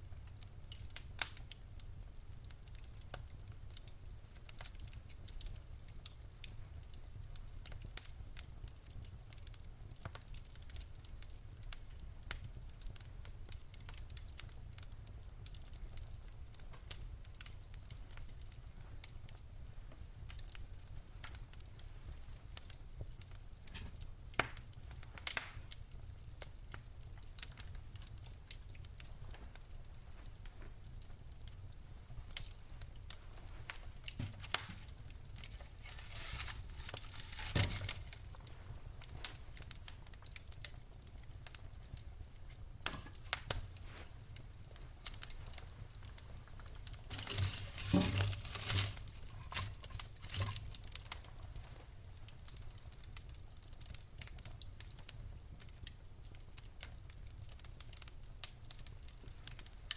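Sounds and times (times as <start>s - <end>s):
fire crackling and popping: 0.0s - 59.9s
low rumble of fire: 0.0s - 59.9s.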